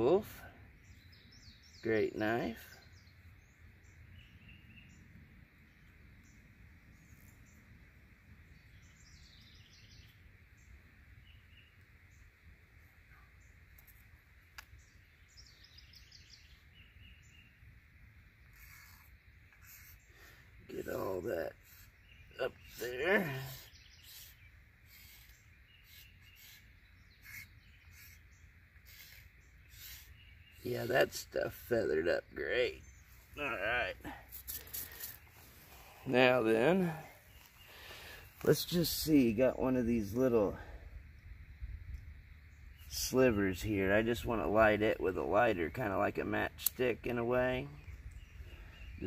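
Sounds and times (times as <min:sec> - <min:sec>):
bird chirps: 0:00.4 - 0:07.8, 0:08.4 - 0:17.8, 0:18.4 - 0:49.0.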